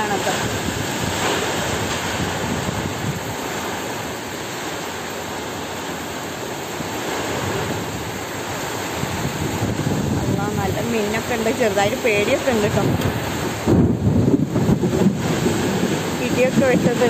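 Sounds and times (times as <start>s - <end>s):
heavy rain pouring: 0.0s - 17.0s
wind gusts buffeting microphone: 0.0s - 17.0s.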